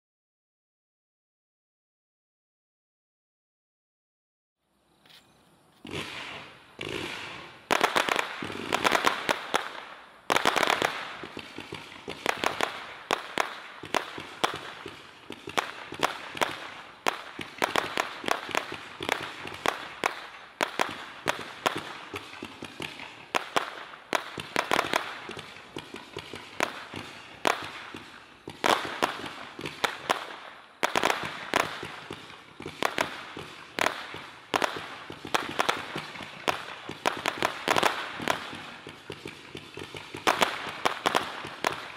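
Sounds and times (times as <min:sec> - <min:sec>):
fireworks cake firing: 0:05.8 - 0:41.9.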